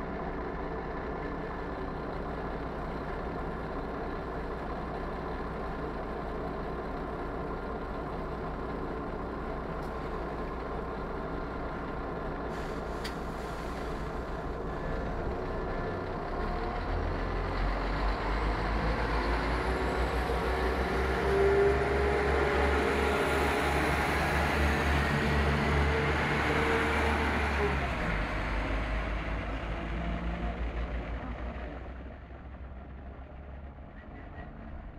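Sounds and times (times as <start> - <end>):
diesel train engines running: 0.0 - 34.9.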